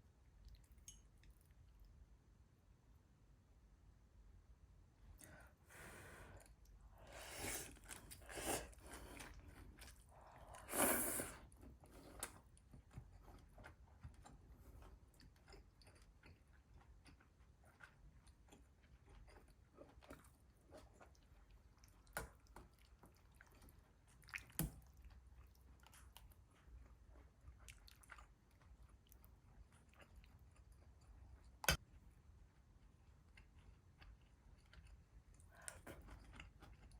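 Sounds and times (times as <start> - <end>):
chewing and crunching food: 0.1 - 2.1, 6.3 - 36.9.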